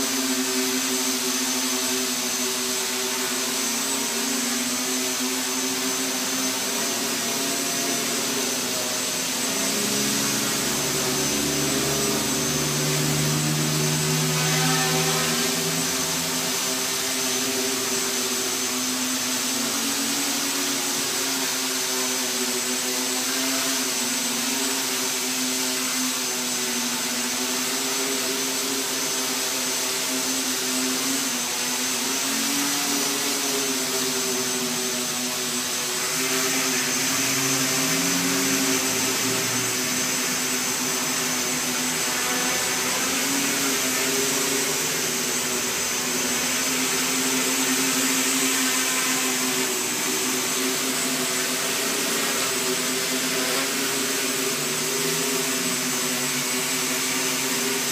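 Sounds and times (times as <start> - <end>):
quadcopter buzzing whir: 0.0 - 57.9.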